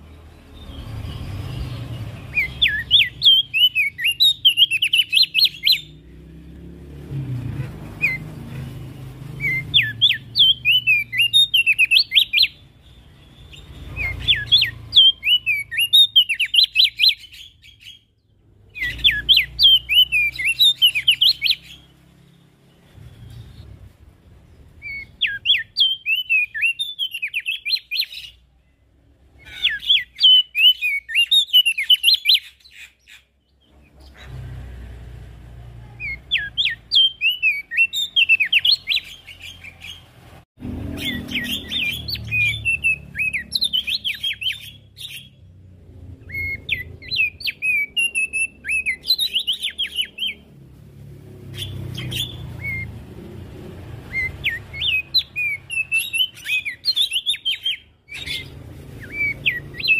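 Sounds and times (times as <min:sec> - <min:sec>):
bird singing high rapid chirps: 0:00.0 - 0:35.4, 0:36.0 - 0:59.9.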